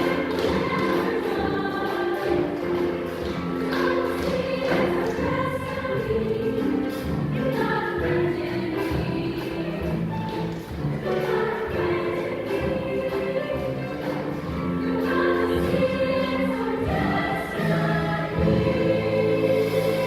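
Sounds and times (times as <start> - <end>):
choir singing in harmony: 0.0 - 20.0.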